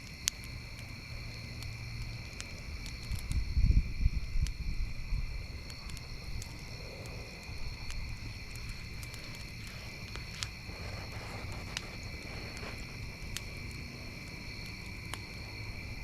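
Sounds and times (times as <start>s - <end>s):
campfire crackling and popping: 0.0s - 16.0s
insects chirping: 0.0s - 16.0s.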